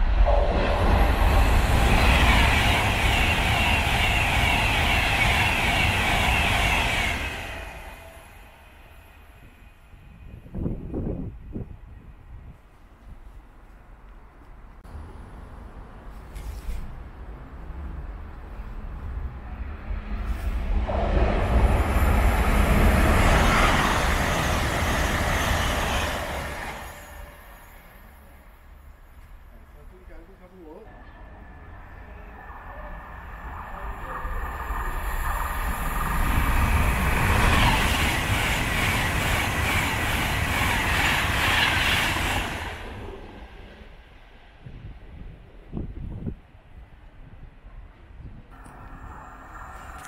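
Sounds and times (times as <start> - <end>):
express train passing at speed: 0.0 - 50.0.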